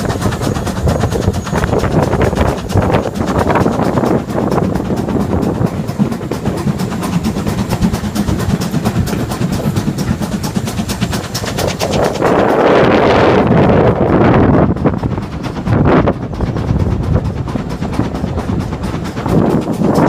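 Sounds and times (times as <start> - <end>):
steam train running: 0.0 - 20.0
wind rushing on microphone: 0.0 - 20.0.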